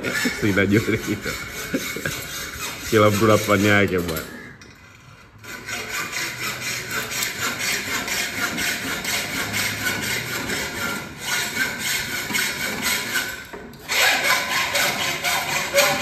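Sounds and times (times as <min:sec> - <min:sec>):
hacksaw cutting metal: 0:00.0 - 0:16.0.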